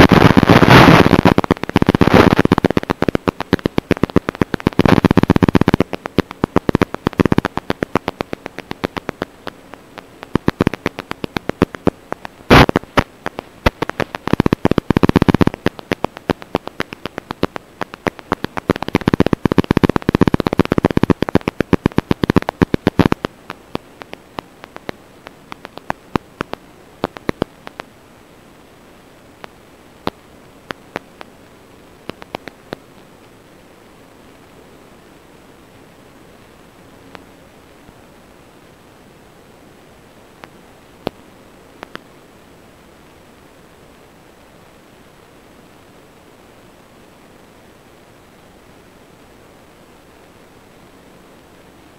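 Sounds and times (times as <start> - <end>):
crackling static clicks: 0.0 - 51.9
steady hiss: 0.0 - 51.9.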